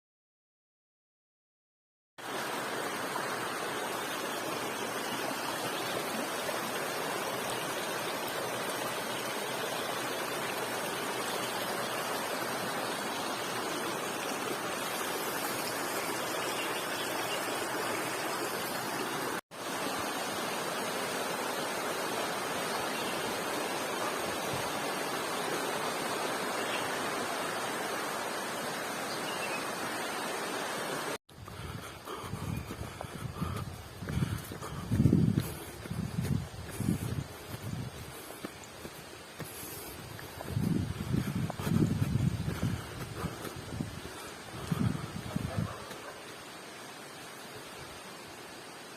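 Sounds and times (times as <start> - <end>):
flowing stream rushing: 2.2 - 48.9.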